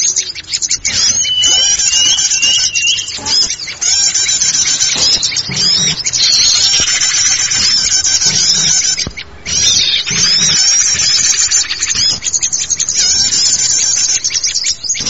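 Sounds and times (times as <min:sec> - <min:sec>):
small birds chirping and twittering: 0:00.0 - 0:15.0.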